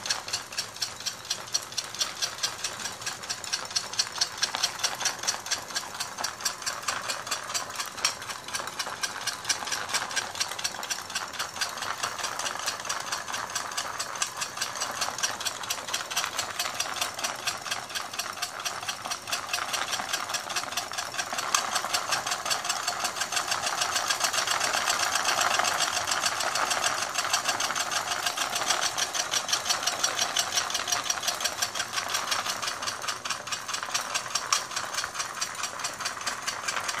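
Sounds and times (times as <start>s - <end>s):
model engine rapid clicking: 0.0s - 37.0s.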